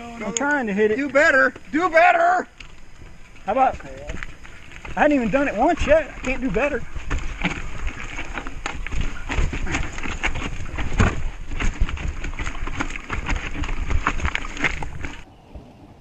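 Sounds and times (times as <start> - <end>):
mountain bike clattering over rocks: 0.0 - 15.2.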